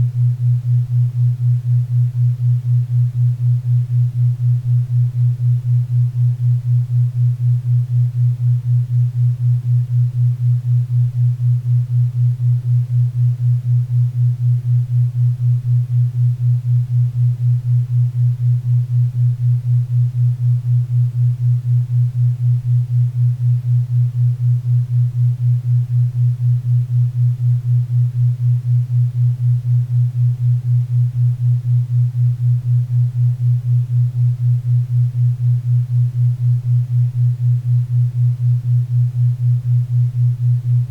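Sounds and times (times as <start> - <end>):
pulsing low hum tone: 0.0 - 40.9.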